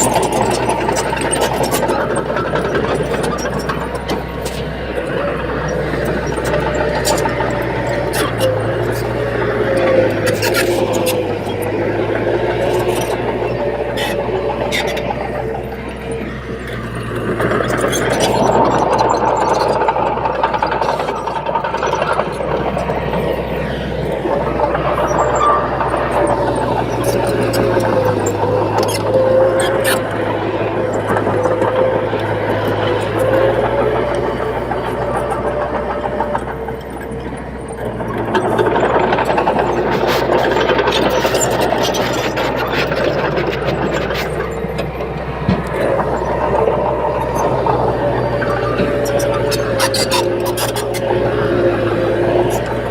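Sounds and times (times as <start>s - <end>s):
bulldozer diesel engine running: 0.0s - 52.9s
rattling and clanking: 0.0s - 52.9s.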